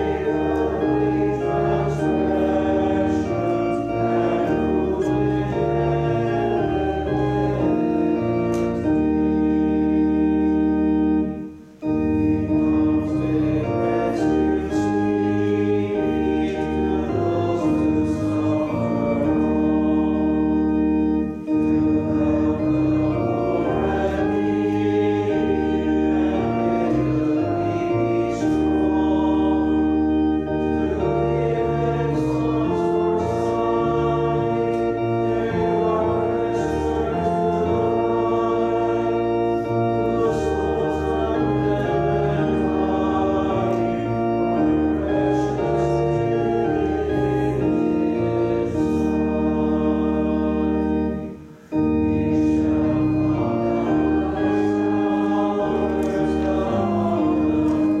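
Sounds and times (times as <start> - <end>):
church organ chords: 0.0 - 58.0
congregation singing: 0.0 - 58.0.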